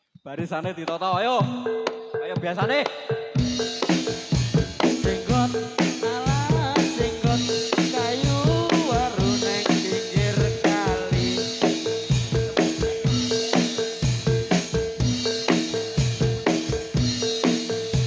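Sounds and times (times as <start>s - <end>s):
fast steady drum beat: 0.3s - 18.0s
repeated metallophone notes: 0.7s - 18.0s
wavering melodic line: 3.4s - 18.0s.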